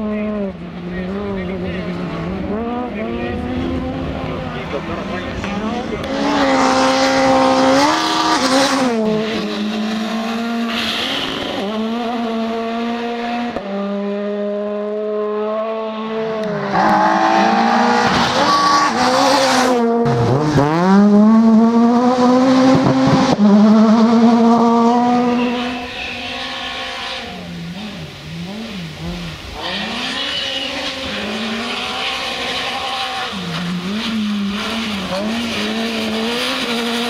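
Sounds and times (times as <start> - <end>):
rally car engines at high revs: 0.0 - 37.0.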